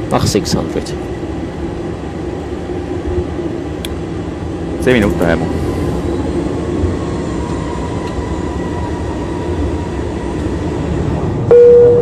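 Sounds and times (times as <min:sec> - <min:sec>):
airliner engines idling: 0:00.0 - 0:12.0.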